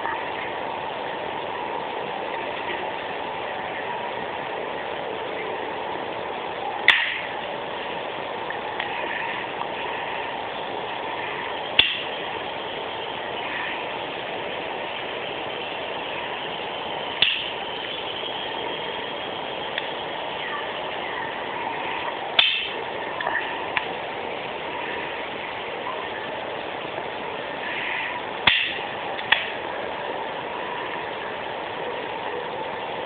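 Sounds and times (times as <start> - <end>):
steady rushing noise: 0.0 - 33.0.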